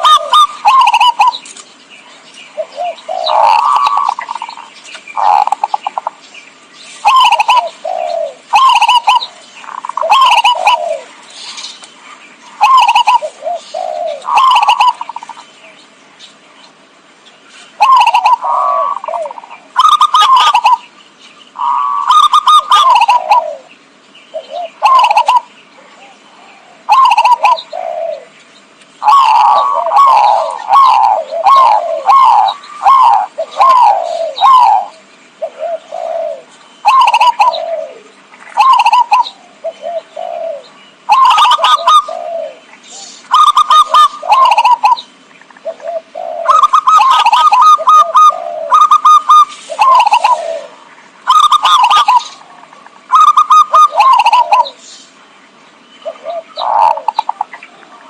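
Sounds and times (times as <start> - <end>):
dove cooing: 0.0 - 1.6, 2.5 - 6.2, 7.0 - 11.8, 12.4 - 15.5, 17.7 - 20.9, 21.6 - 28.4, 29.0 - 54.8, 56.0 - 58.0.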